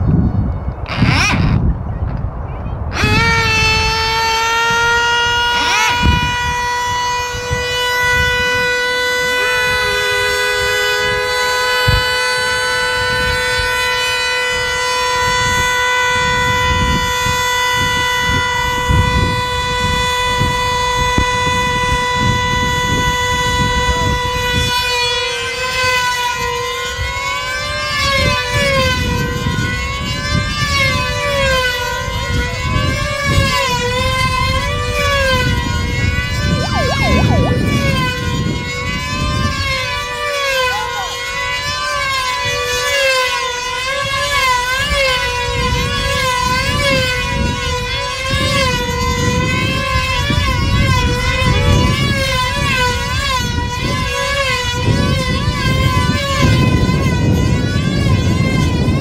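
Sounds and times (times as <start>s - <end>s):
wind rumbling on microphone: 0.0s - 59.0s
model plane engines at high revs: 0.8s - 1.7s, 2.9s - 59.0s.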